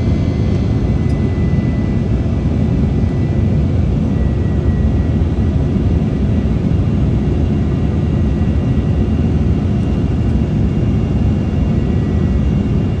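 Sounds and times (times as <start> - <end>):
jet engines roaring in cabin: 0.0 - 13.0.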